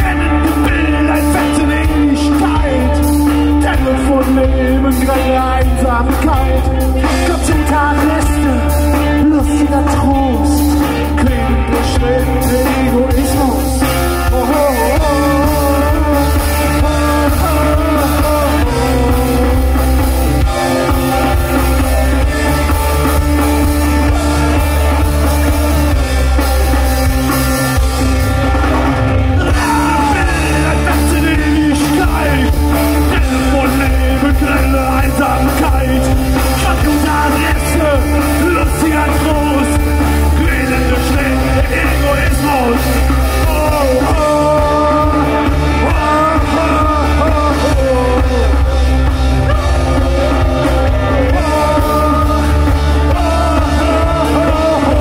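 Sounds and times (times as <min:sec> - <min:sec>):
man singing: 0:00.0 - 0:55.0
rock band playing live: 0:00.0 - 0:55.0.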